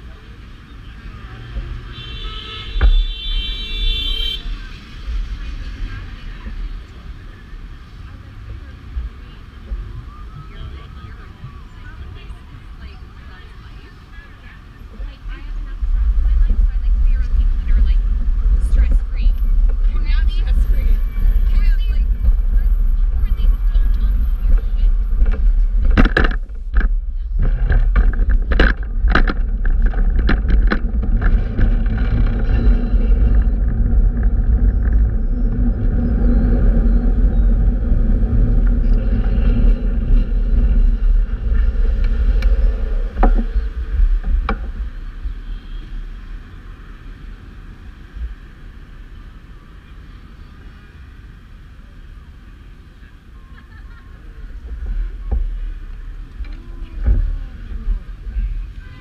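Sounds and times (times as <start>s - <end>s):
street traffic: 0.0s - 59.0s
wind rumble on microphone: 0.0s - 59.0s.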